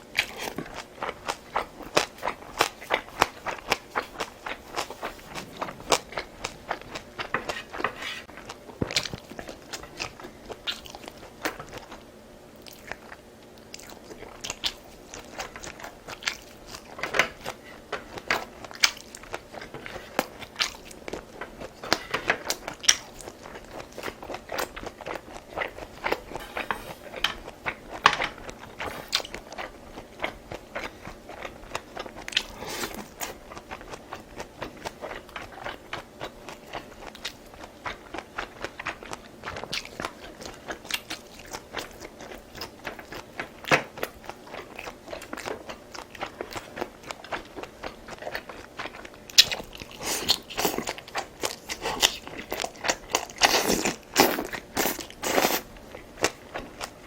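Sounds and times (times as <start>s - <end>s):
close chewing and crunching: 0.0s - 57.0s.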